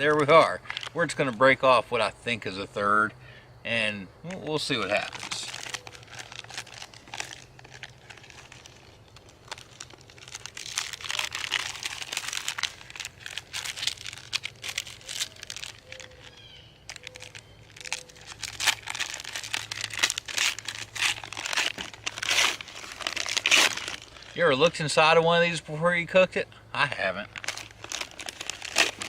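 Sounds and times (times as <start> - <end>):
paper bag crinkling: 0.0 - 1.6, 4.3 - 24.6, 27.2 - 29.0.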